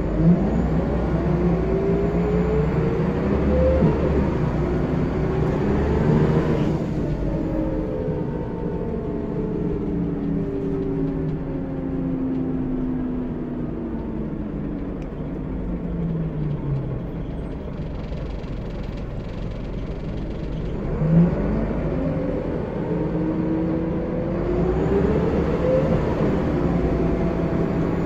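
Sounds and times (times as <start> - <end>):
bus diesel engine rumble: 0.0 - 28.0.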